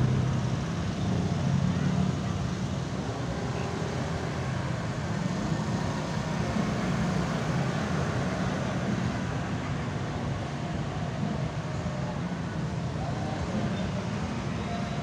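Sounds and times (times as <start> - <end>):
scooters and cars passing: 0.0 - 15.0.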